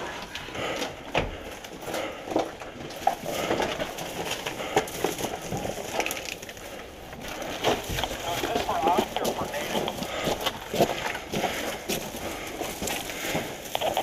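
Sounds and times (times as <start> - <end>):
carried gear rattling: 0.0 - 14.0
footsteps: 0.0 - 14.0.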